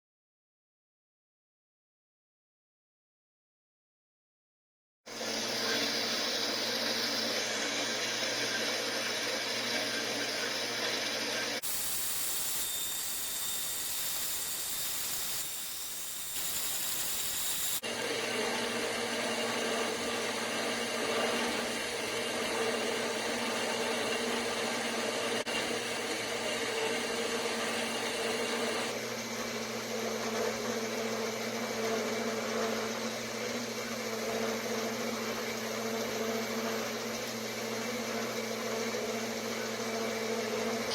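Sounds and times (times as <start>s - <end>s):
small machine motor humming: 5.1s - 40.9s.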